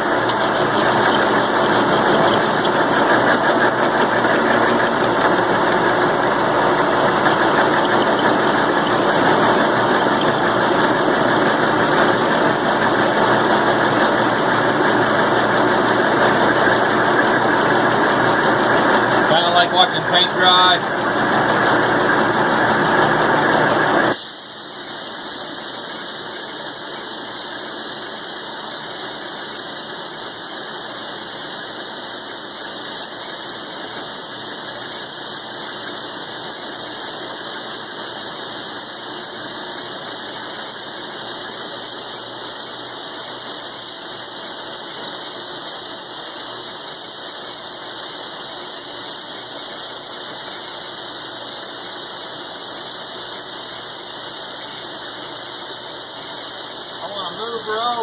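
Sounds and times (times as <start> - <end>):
milling machine cutting steel: 0.0 - 58.0.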